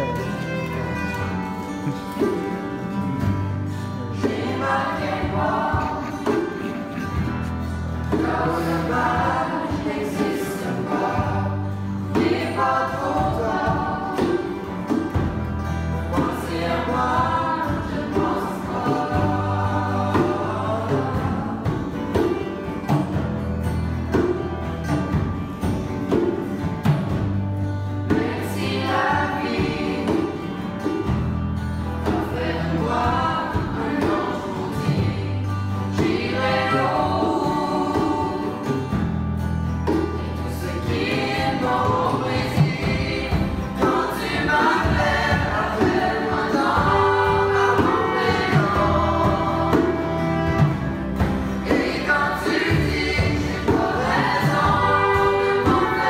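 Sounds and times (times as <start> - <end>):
young voices singing together: 0.0 - 23.2, 28.0 - 56.0
strummed acoustic guitars: 0.0 - 56.0.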